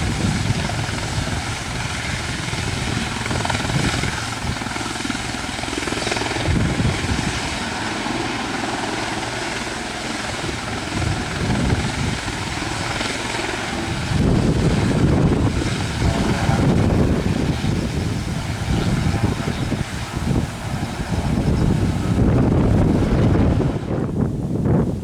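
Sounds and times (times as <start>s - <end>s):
helicopter turbine and rotors: 0.0s - 25.0s
wind buffeting microphone: 0.0s - 25.0s.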